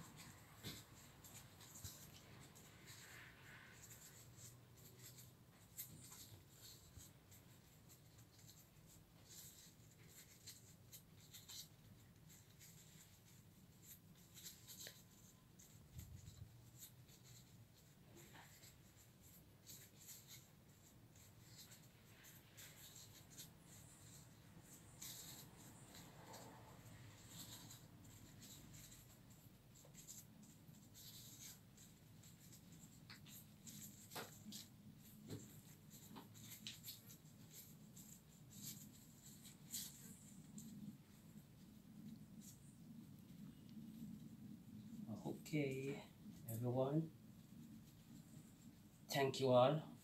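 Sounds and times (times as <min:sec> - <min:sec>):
crepe paper crinkling: 0:00.0 - 0:44.2.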